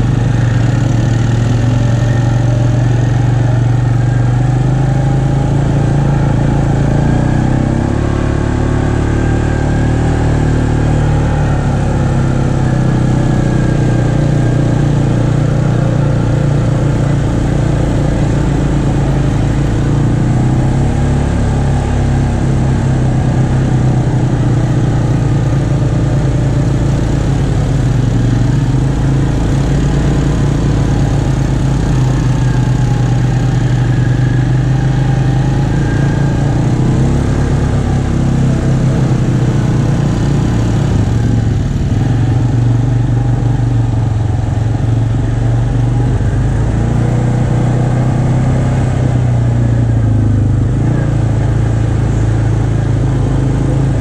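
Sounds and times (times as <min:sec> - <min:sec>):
atv engine droning: 0:00.0 - 0:54.0.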